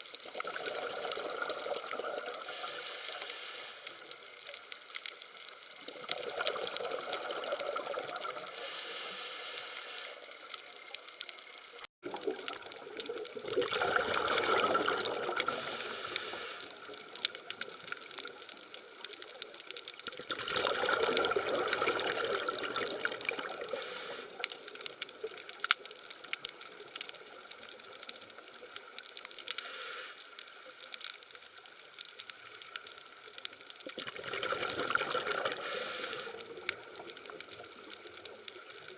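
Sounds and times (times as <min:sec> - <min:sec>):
bubbling water: 0:00.0 - 0:08.9, 0:10.1 - 0:29.6, 0:30.5 - 0:38.9
small crackling clicks: 0:00.0 - 0:13.5, 0:15.3 - 0:20.3, 0:21.7 - 0:38.9.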